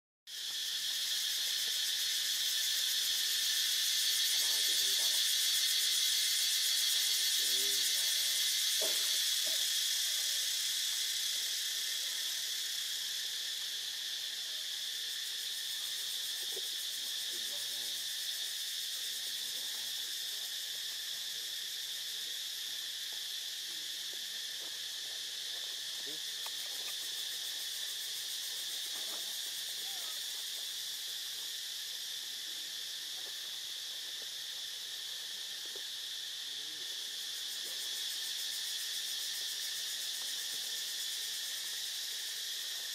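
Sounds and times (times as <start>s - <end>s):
insect chorus buzzing: 0.3s - 42.9s.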